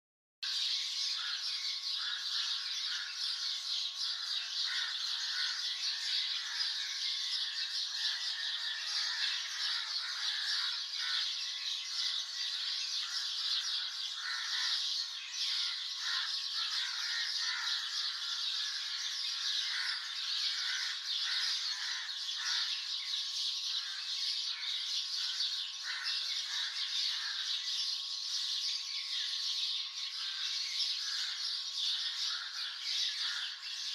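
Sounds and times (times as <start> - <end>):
songbirds chirping: 0.4 - 33.9.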